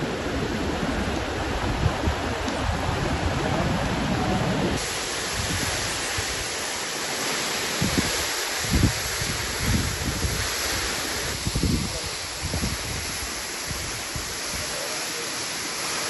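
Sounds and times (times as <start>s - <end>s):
wind on microphone: 0.0s - 6.6s, 7.6s - 14.9s
creek flowing: 0.0s - 16.0s
waterfall rushing: 0.0s - 16.0s.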